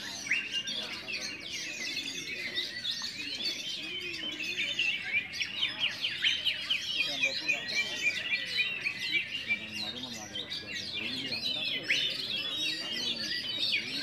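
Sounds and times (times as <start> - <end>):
birds singing chorus: 0.0 - 14.0
faint voices murmuring: 0.0 - 14.0.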